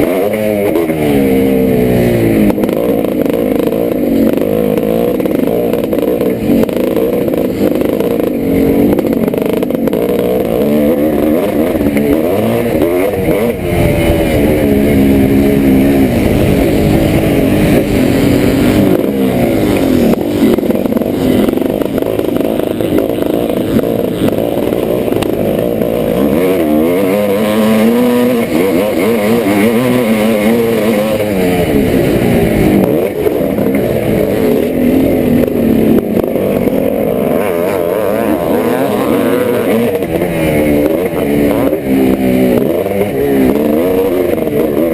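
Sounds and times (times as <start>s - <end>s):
motorcycle engine racing: 0.0s - 44.9s.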